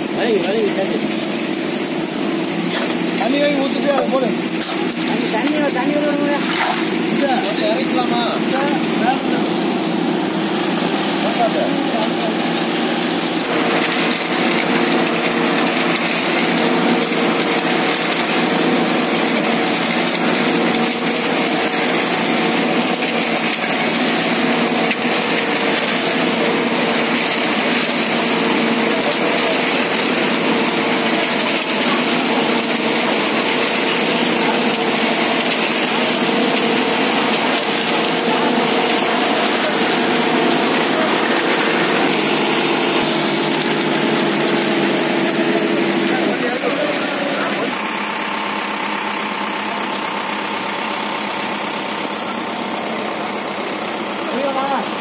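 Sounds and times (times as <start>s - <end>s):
concrete mixer engine hum: 0.0s - 55.0s
wet concrete sliding down chute: 0.0s - 55.0s.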